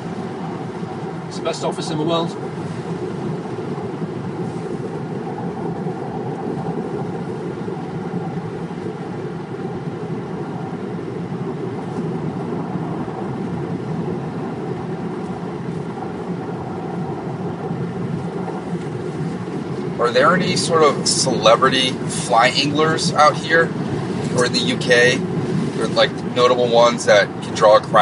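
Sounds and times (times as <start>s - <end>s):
road and engine rumble in car: 0.0s - 28.0s.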